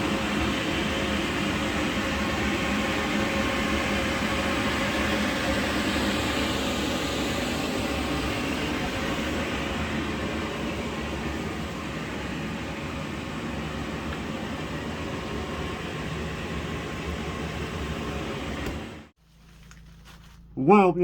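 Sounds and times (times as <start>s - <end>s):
machine droning: 0.0s - 21.0s.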